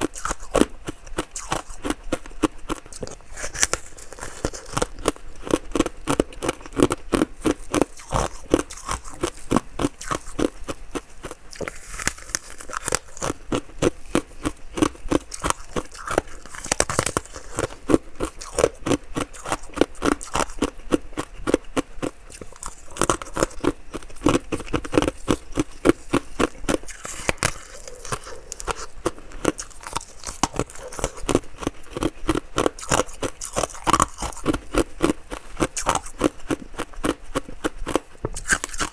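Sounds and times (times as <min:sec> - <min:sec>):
chewing ice crunches: 0:00.0 - 0:38.9.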